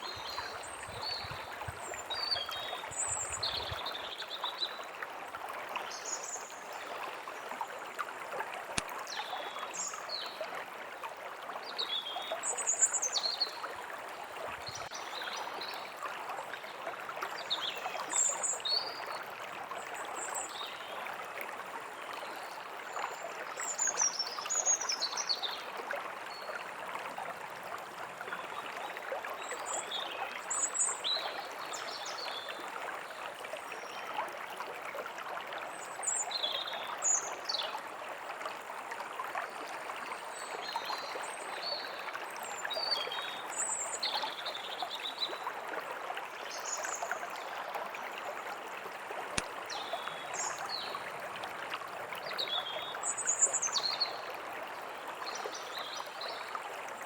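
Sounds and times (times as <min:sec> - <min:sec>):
forest stream running: 0:00.0 - 0:57.0.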